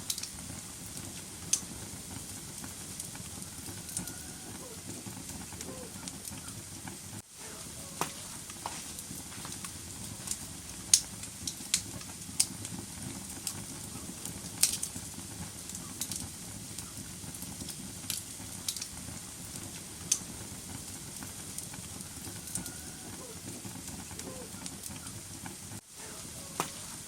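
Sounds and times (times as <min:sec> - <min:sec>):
low rush of flame: 0:00.0 - 0:27.0
wood fire crackles and pops: 0:00.0 - 0:27.0.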